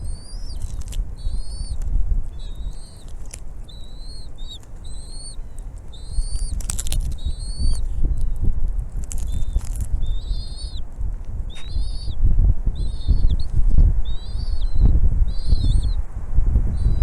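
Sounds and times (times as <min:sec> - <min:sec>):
eagle chirping calls: 0:00.0 - 0:08.5, 0:09.1 - 0:10.9, 0:11.5 - 0:16.1, 0:16.8 - 0:17.0
low rumble: 0:00.0 - 0:17.0.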